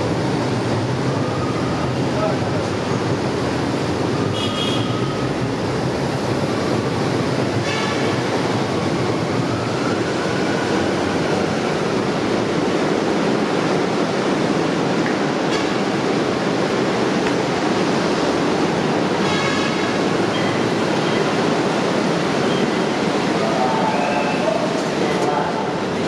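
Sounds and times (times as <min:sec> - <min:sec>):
train rumble and hiss: 0:00.0 - 0:26.0.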